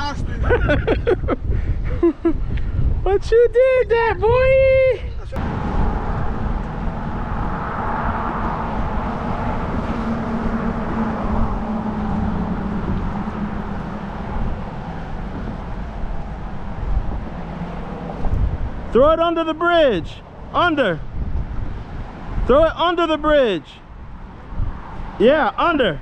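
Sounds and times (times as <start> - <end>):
road traffic passing: 5.2 - 26.0.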